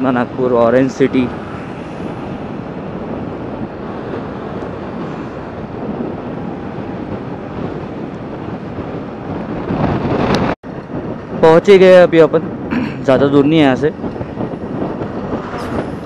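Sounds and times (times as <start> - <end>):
vehicle road noise: 0.0 - 16.0
wind on microphone: 0.0 - 16.0.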